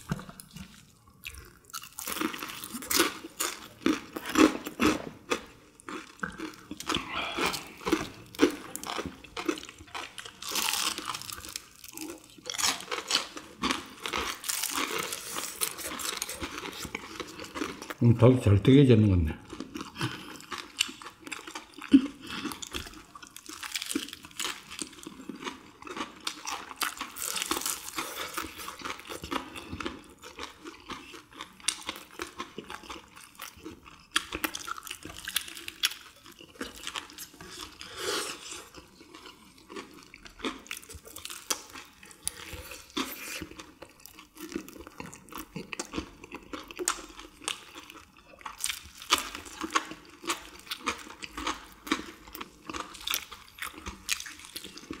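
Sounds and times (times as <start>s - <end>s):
wet chewing and smacking: 0.0s - 18.0s, 19.4s - 55.0s
crunching fried chicken: 0.0s - 18.1s, 19.1s - 55.0s.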